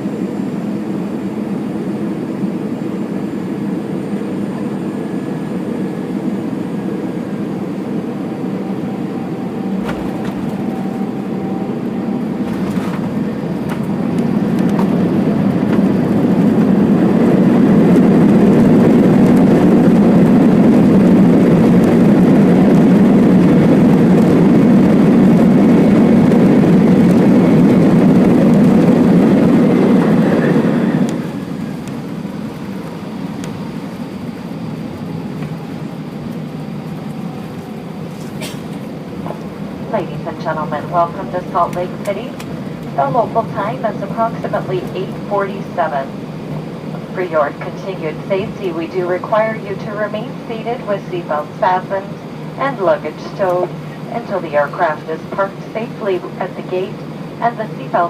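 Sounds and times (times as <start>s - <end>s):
jet engine roar in cabin: 0.0s - 58.0s.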